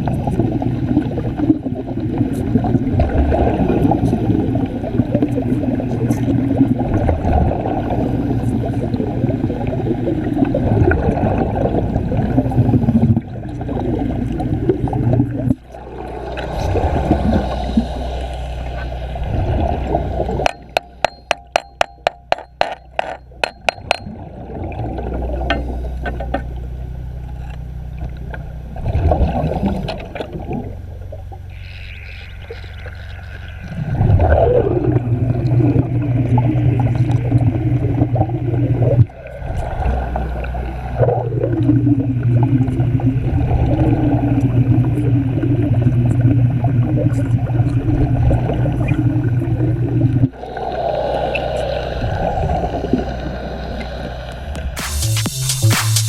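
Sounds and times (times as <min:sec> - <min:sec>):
gas bubbling underwater: 0:00.0 - 0:26.0, 0:28.0 - 0:54.8.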